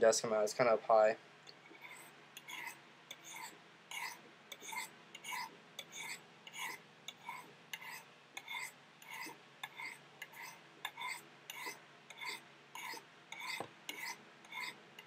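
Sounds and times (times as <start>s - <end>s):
knife scraping on ceramic rod: 1.6s - 15.0s.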